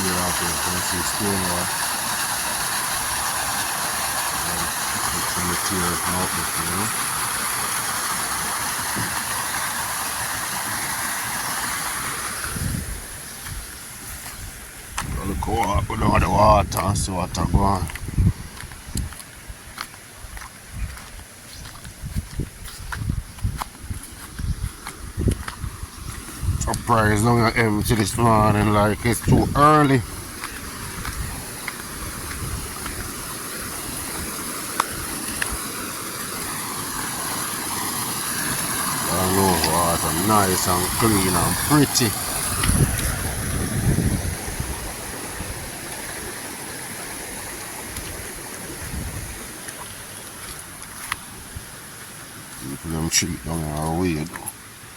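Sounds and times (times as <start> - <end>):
river water rushing: 0.0 - 16.6, 23.6 - 54.9.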